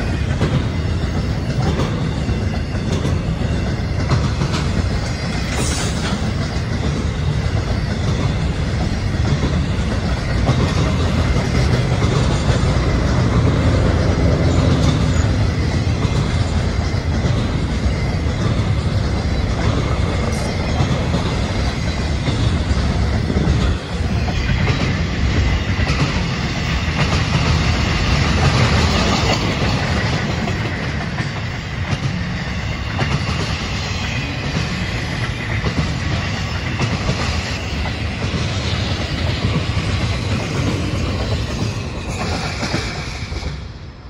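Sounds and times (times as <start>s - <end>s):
freight train rolling past: 0.0s - 44.0s.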